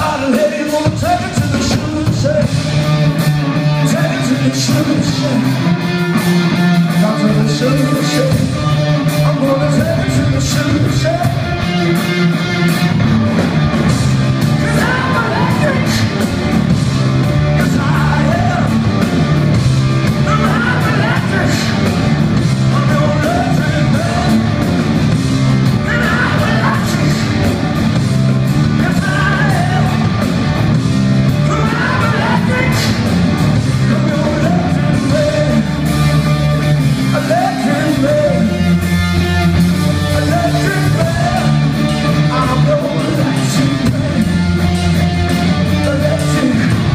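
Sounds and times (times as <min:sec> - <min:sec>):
man singing lead vocal: 0:00.0 - 0:05.7, 0:06.8 - 0:12.5, 0:14.5 - 0:16.4, 0:17.4 - 0:18.9, 0:20.1 - 0:24.9, 0:25.6 - 0:27.7, 0:28.6 - 0:30.3, 0:31.3 - 0:36.2, 0:37.0 - 0:46.9
rock band playing live: 0:00.0 - 0:46.9.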